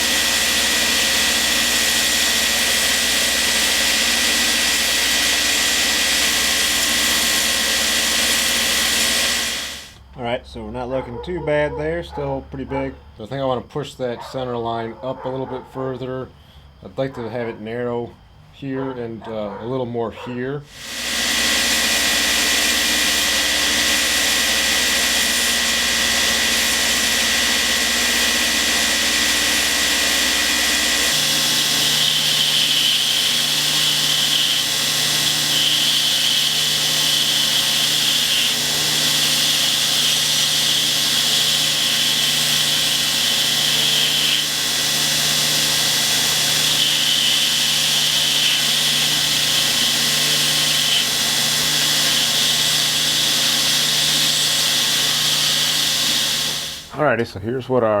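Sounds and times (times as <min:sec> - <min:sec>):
belt grinder grinding wood: 0:00.0 - 0:10.1, 0:20.2 - 0:57.1.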